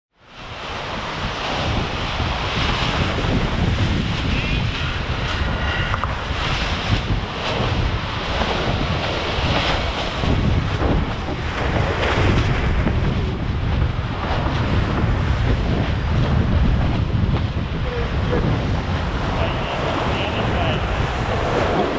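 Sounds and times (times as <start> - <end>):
water rushing along hull: 0.2 - 21.9
wind buffeting microphone: 0.2 - 21.9.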